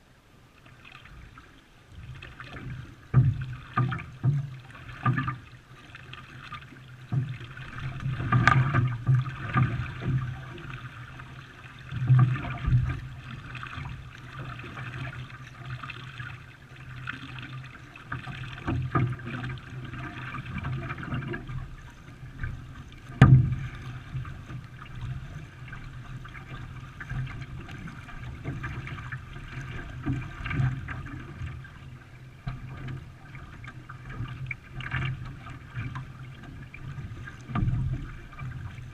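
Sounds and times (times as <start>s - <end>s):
canoe paddles pulling through water: 0.0s - 38.9s
water splashing against hull: 0.0s - 38.9s.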